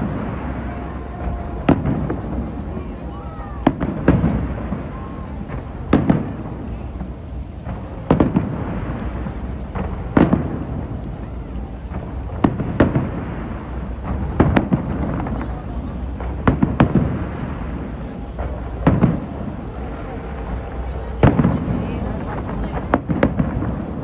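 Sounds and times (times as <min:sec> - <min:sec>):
fireworks booming: 0:00.0 - 0:24.0
low rumble: 0:00.0 - 0:24.0.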